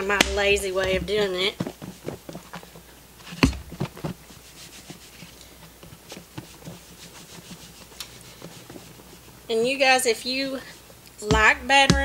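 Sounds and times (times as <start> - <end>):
meat and flour rustling inside: 0.0 - 11.3.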